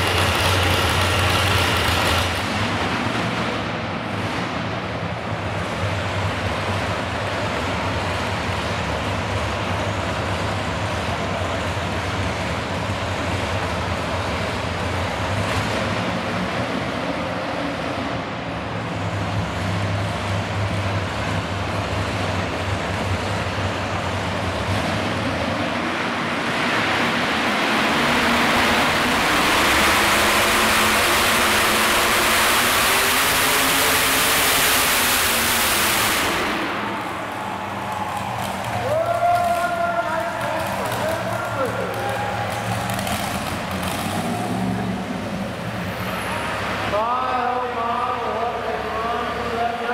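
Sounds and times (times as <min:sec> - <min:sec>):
tractor engines roaring: 0:00.0 - 0:49.9.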